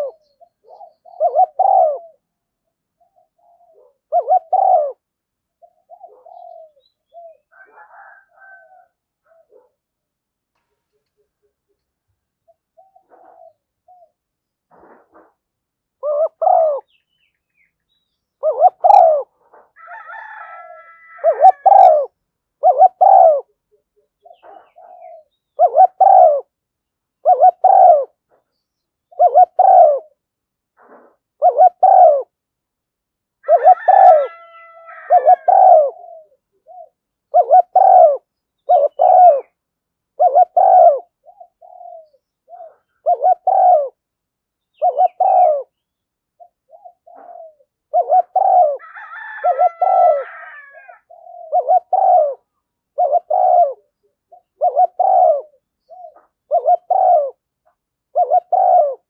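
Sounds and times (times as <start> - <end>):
dove cooing: 0.0 - 9.8, 12.4 - 15.4, 16.0 - 17.0, 18.4 - 26.6, 27.2 - 30.2, 30.8 - 32.4, 33.4 - 44.0, 44.7 - 45.8, 46.4 - 59.0.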